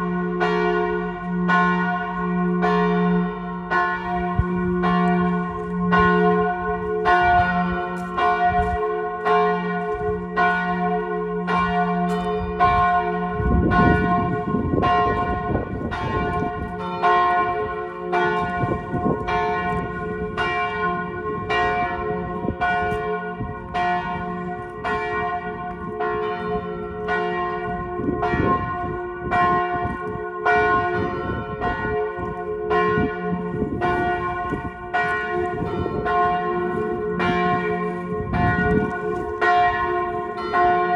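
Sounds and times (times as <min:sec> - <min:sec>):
big church bell pealing: 0:00.0 - 0:40.9.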